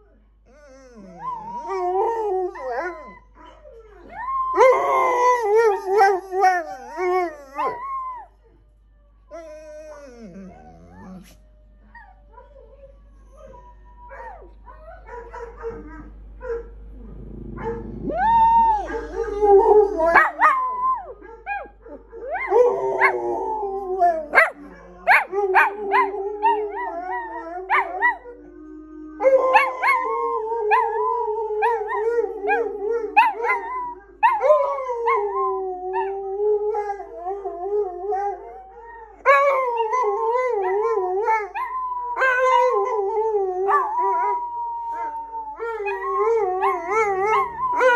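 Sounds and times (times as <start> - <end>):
dogs howling: 0.5 - 8.4, 9.3 - 47.9.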